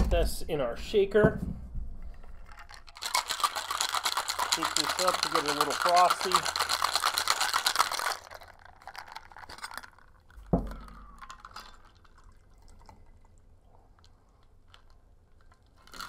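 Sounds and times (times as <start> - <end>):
ice rattling in cocktail shaker: 2.2 - 16.0
liquid trickling into glass: 2.6 - 16.0.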